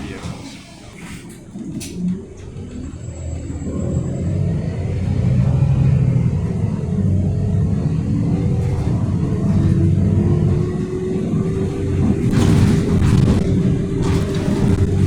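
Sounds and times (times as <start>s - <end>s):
bus diesel engine accelerating: 0.0s - 15.0s.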